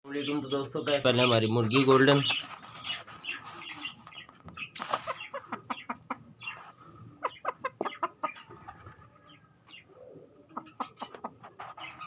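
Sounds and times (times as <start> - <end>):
hen clucking: 0.2 - 12.0.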